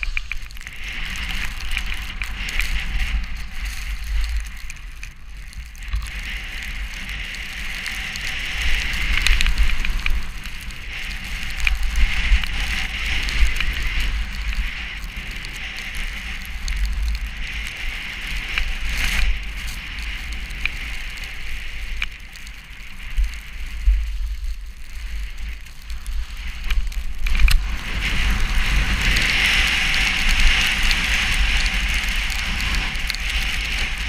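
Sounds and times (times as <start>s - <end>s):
hiss of wind-driven snow: 0.0s - 34.0s
wind buffeting microphone: 0.0s - 34.0s.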